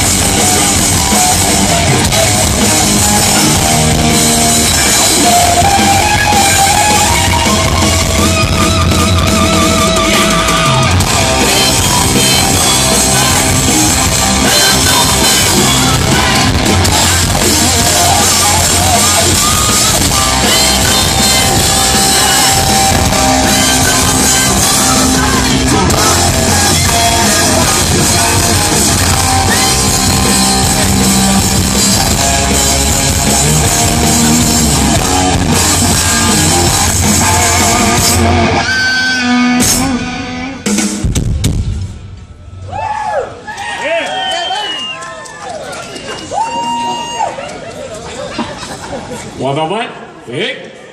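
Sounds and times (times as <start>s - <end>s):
electric guitar: 0.0s - 42.1s
live rock band playing: 0.0s - 42.7s
drum kit: 0.0s - 43.2s.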